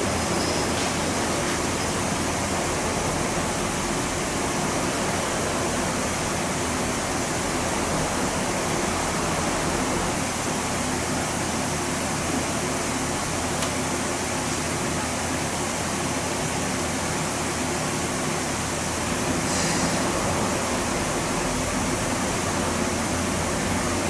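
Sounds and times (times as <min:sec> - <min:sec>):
electric fan running: 0:00.0 - 0:24.0.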